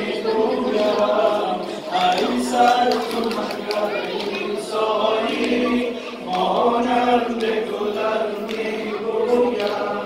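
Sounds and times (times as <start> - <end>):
men chanting a lament in unison: 0.0 - 10.0.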